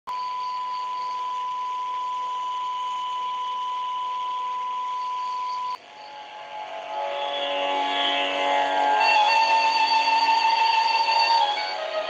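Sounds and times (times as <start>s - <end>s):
steady electronic beep tone: 0.1s - 11.8s.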